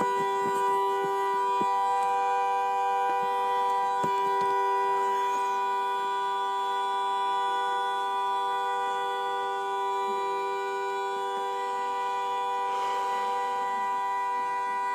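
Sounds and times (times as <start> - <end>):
truck horn sounding continuously: 0.0 - 14.9.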